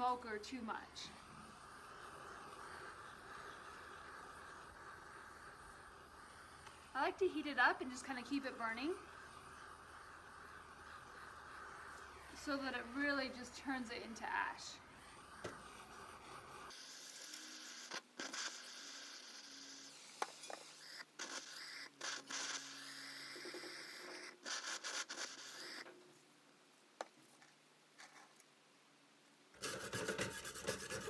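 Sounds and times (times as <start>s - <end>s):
propane torch flame hissing: 0.0s - 25.9s.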